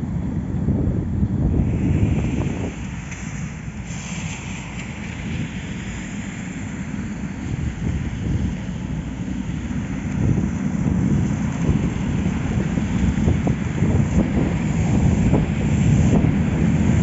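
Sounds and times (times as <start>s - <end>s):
wind buffeting microphone: 0.0s - 17.0s
cars passing on wet road: 1.4s - 17.0s.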